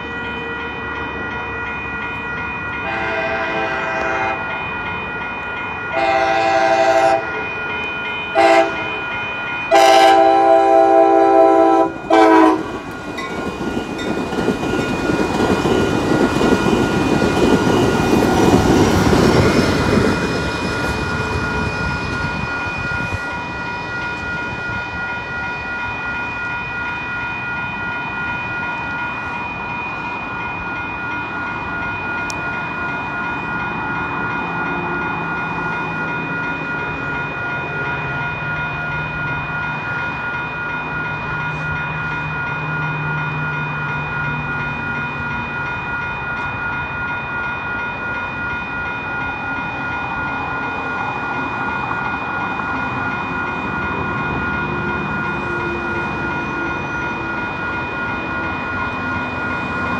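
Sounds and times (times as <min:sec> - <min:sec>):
crossing warning bell ringing: 0:00.0 - 0:59.9.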